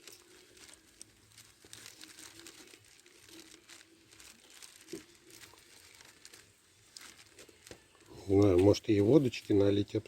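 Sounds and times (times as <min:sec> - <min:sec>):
crinkling and rustling: 0:00.0 - 0:10.0.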